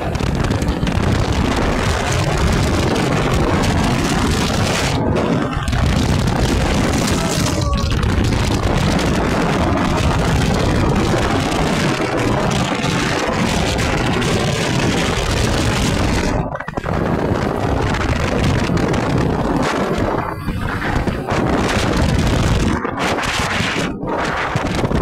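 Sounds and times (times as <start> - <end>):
scooter motor: 0.0 - 23.0
road noise: 0.0 - 25.0
wind on microphone: 0.0 - 25.0.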